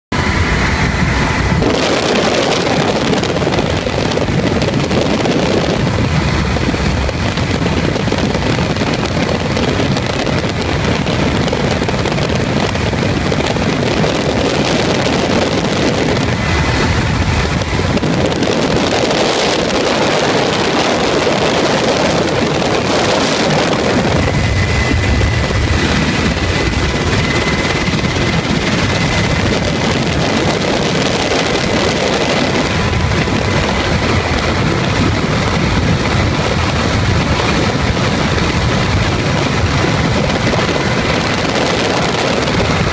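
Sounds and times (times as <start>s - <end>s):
helicopter engine and rotor: 0.1s - 42.9s
wind rushing past window: 0.2s - 42.9s.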